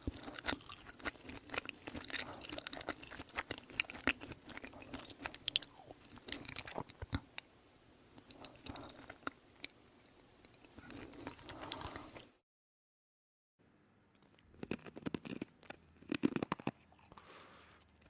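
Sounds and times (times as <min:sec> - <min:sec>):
person chewing crunchy food: 0:00.0 - 0:07.5, 0:08.2 - 0:12.3, 0:14.2 - 0:18.0.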